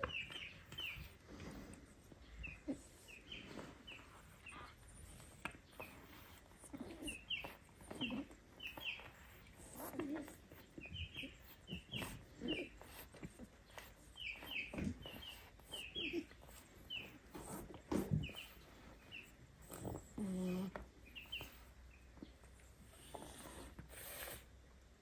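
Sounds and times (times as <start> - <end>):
soft low kitten sounds: 0.0 - 24.5.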